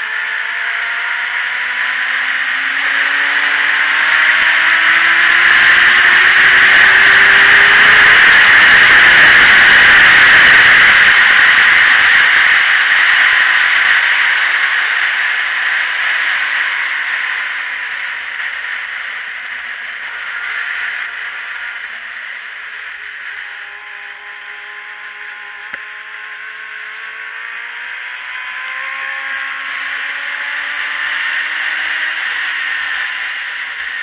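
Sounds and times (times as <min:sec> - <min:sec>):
faint motorcycle engine: 0:00.0 - 0:34.0.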